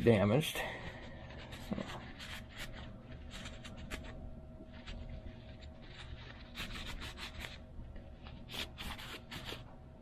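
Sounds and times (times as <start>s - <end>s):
paper towel scratching on metal: 1.0s - 7.6s, 8.3s - 9.7s.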